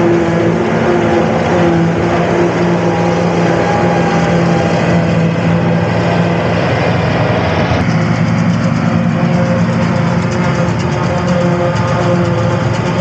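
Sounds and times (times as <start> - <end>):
farm machinery engine droning: 0.0 - 13.0.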